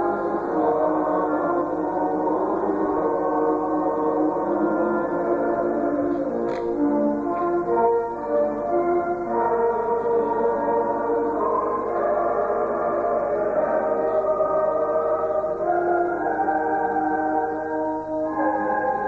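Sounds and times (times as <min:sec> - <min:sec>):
slow solemn music: 0:00.0 - 0:19.0.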